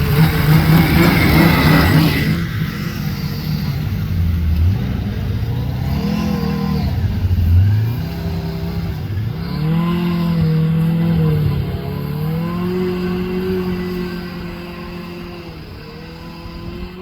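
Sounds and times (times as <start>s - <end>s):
snowmobile engine revving: 0.0s - 17.0s.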